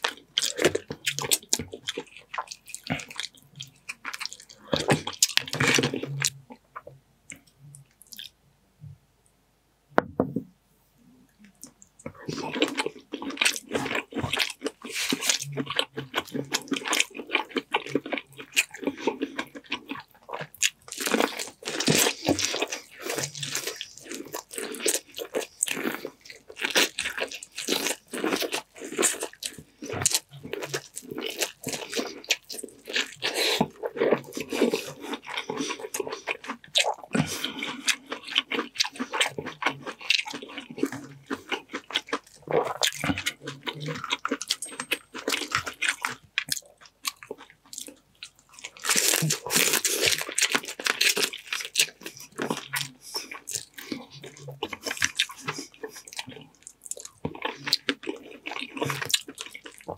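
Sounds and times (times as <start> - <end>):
chewing: 0.0 - 8.4, 11.3 - 59.9.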